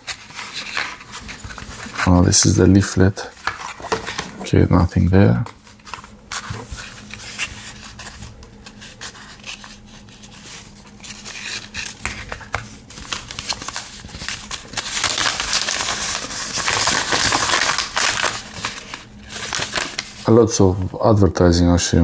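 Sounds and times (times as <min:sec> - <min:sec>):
paper leaflet rustling: 0:00.0 - 0:20.9.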